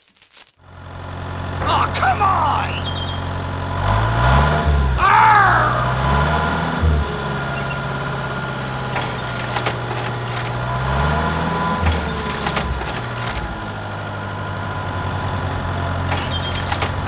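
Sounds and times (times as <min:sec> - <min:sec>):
engine running: 0:00.6 - 0:17.0.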